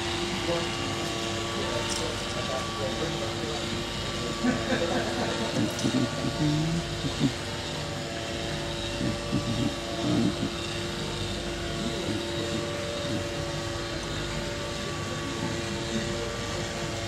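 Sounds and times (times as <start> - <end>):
faint background talking: 0.0 - 17.0
steady mechanical drone: 0.0 - 17.0.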